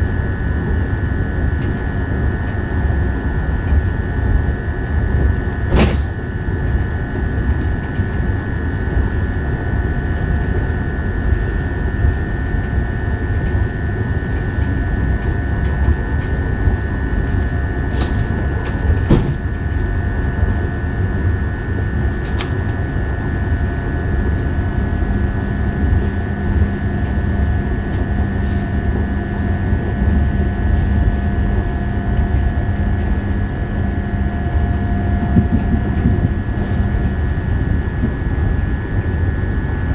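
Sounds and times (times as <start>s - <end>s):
high whine: 0.0s - 39.9s
low steady hum: 0.0s - 39.9s
wheels rumbling on rails: 0.0s - 39.9s.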